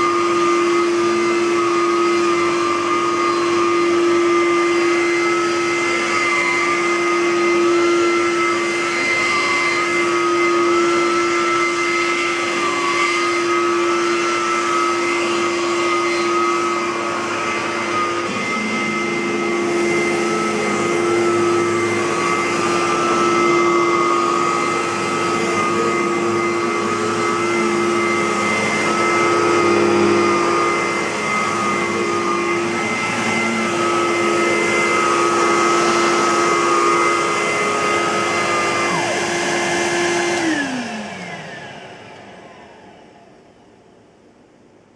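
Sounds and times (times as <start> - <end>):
upright vacuum cleaner running: 0.0 - 44.9.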